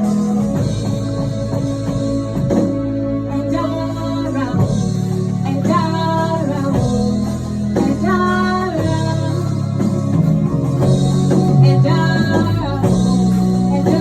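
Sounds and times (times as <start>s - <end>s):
guitar accompaniment: 0.0s - 14.0s.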